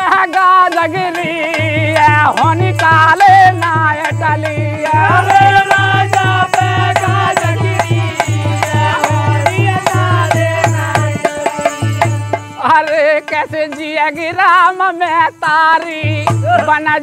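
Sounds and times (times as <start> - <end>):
dholak drum beat: 0.0 - 17.0
man singing: 0.0 - 17.0.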